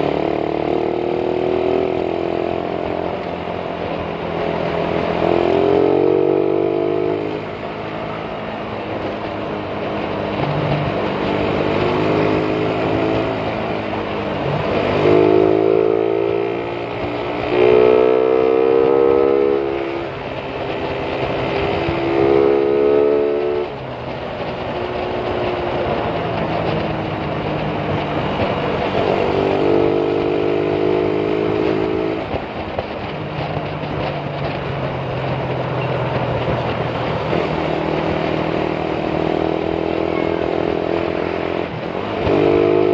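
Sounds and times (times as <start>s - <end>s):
motorcycle engine accelerating: 0.0s - 42.9s
wind noise: 0.0s - 42.9s.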